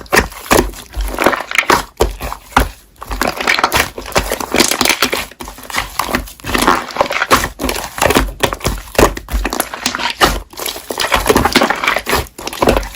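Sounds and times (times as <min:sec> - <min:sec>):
hands squishing slime: 0:00.0 - 0:12.9.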